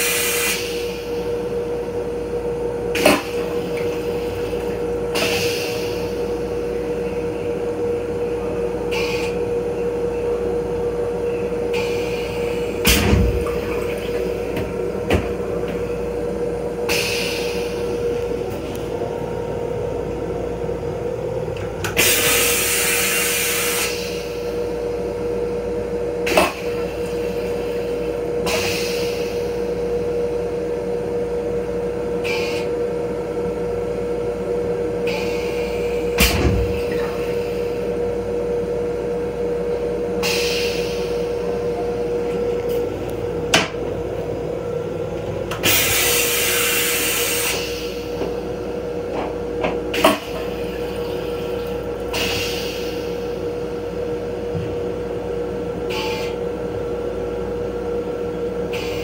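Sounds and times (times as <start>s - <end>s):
train hum and rumble: 0.0s - 59.0s.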